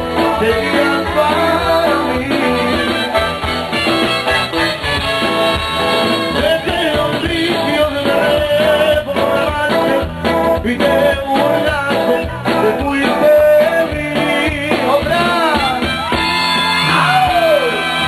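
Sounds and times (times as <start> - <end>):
person singing: 0.0 - 3.8, 6.2 - 18.0
band playing live: 0.0 - 18.0.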